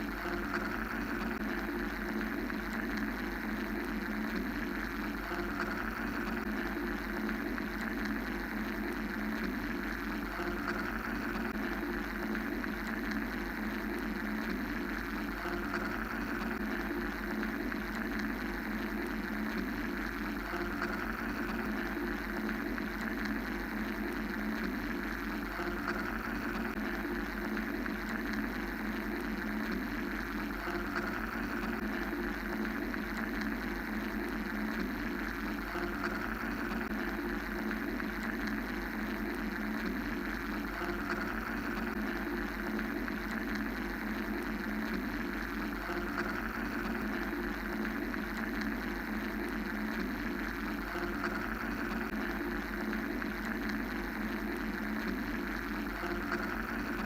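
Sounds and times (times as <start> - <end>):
mechanical hum and hiss: 0.0 - 57.0.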